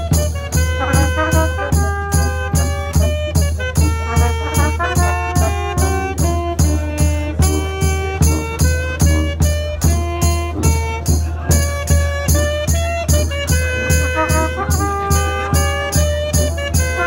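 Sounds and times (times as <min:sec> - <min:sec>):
backing track with drums and bass: 0:00.0 - 0:17.0
saxophone melody: 0:00.0 - 0:17.0.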